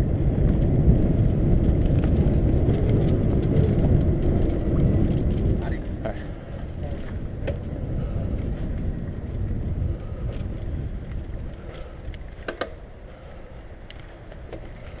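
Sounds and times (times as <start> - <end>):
bike clicks and rattles: 0.0 - 15.0
wind rumbling on microphone: 0.0 - 15.0.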